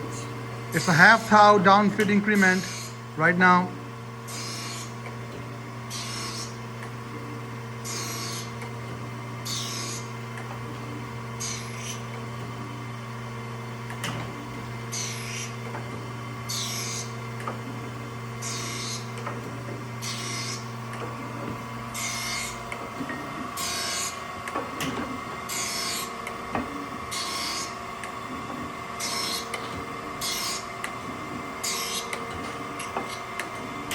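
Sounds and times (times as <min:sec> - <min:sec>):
grinder motor hum: 0:00.0 - 0:33.9.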